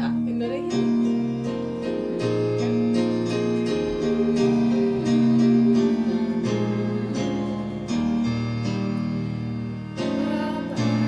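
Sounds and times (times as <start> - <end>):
instrumental hymn chords: 0.0 - 11.0.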